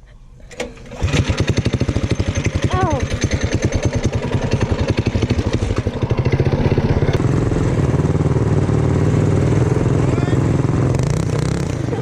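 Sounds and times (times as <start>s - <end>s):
small engine running: 0.8s - 12.0s.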